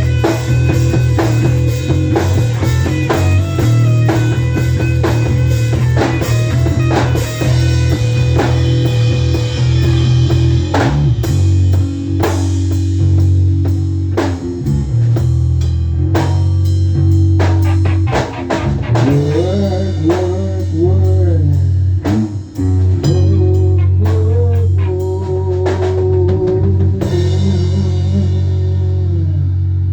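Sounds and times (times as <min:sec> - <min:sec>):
bass guitar: 0:00.0 - 0:29.9
drum kit: 0:00.0 - 0:29.9
electric guitar: 0:00.0 - 0:29.9.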